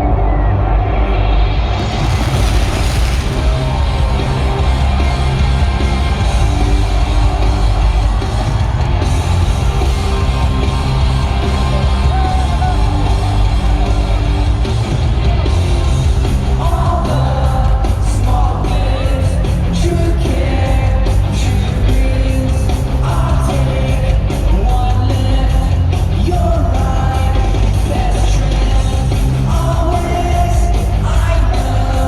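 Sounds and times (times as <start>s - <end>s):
loud rock music with singing: 0.0s - 32.0s.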